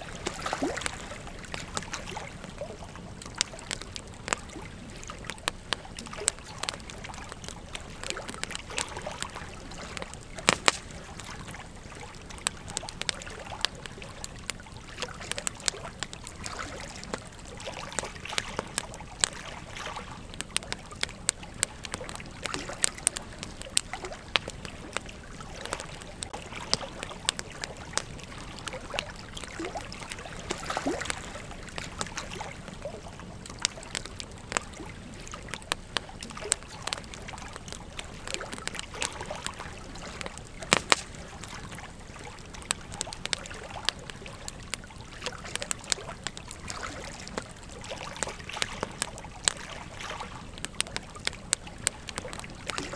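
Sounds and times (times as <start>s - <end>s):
campfire crackling: 0.0s - 52.9s.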